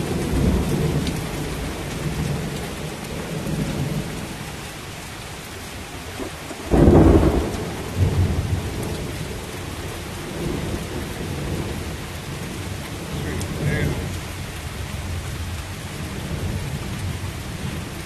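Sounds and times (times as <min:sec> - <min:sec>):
thunder clap and rumble: 0:00.0 - 0:04.7, 0:06.0 - 0:18.0
heavy rain: 0:00.0 - 0:18.0.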